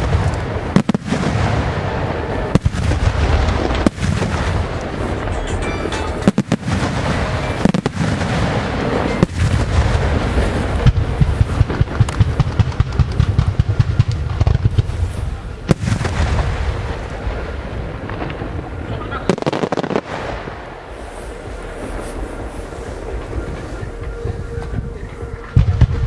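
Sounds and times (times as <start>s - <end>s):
fireworks booming and crackling: 0.0s - 26.0s
sharp firework reports: 0.0s - 26.0s.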